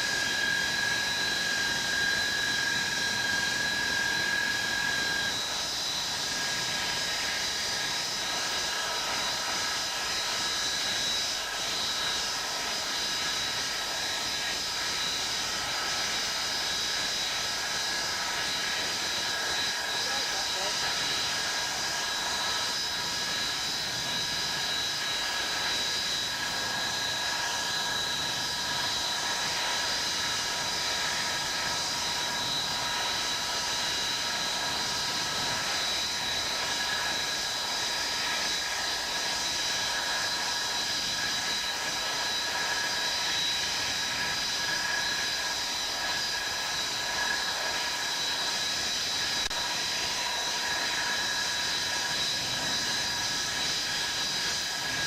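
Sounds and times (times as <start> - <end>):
high compressor whine: 0.0 - 55.0
jet engines rushing: 0.0 - 55.0.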